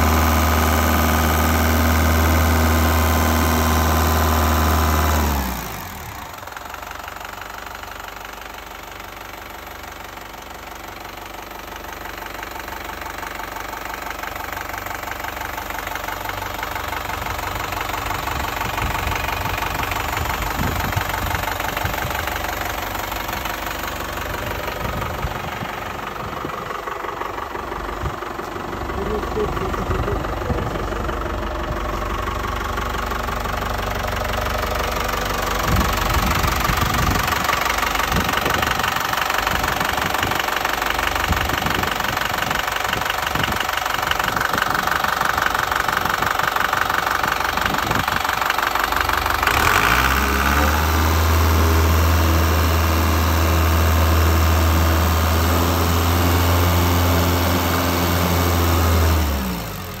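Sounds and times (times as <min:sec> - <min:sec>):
forklift diesel engine idling: 0:00.0 - 1:00.0.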